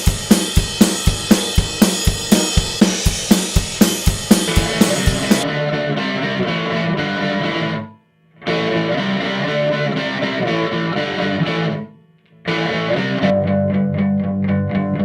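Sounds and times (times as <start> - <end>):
distorted electric guitar music: 0.0 - 11.9, 12.5 - 15.0.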